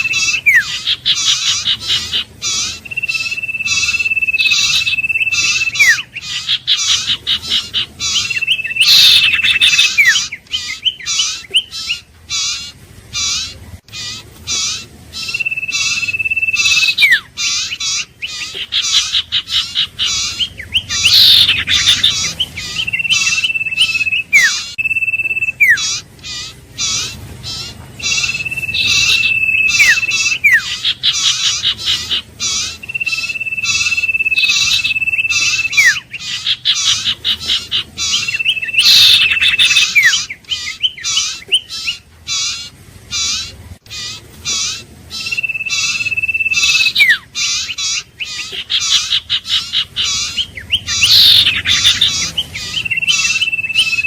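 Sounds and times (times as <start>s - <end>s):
fast chirping notes: 0.0s - 42.0s, 44.7s - 54.0s.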